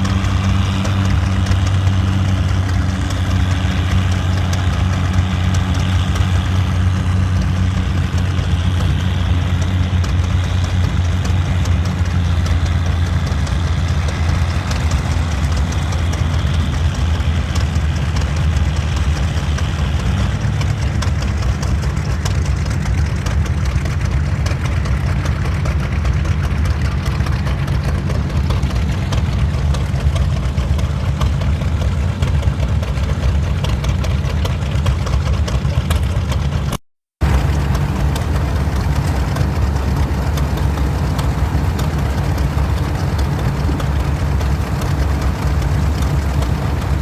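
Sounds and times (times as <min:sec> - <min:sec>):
tractor engine droning: 0:00.0 - 0:36.6, 0:37.2 - 0:47.0.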